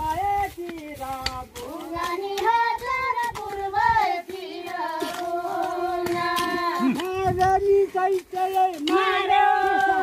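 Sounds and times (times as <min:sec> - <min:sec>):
high voice singing folk song: 0:00.0 - 0:10.0.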